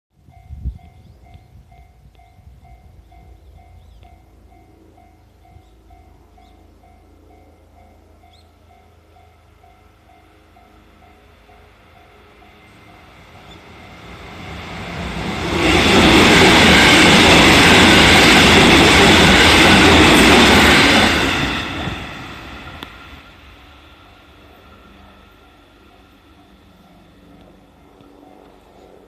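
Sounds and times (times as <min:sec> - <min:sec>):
train wheels rumbling on rails: 0:00.2 - 0:29.0.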